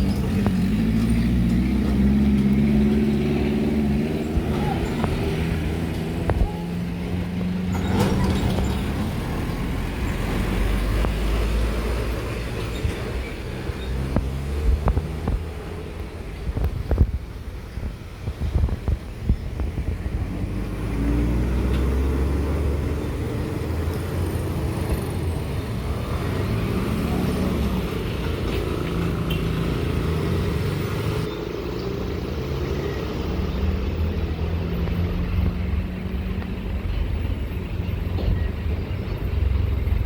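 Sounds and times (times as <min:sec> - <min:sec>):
heavy trucks driving past: 0:00.0 - 0:40.0.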